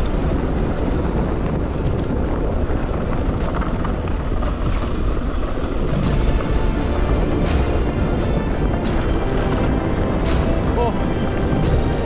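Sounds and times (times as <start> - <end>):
bike tyres rumbling on trail: 0.0 - 12.0
wind on camera microphone: 0.0 - 12.0.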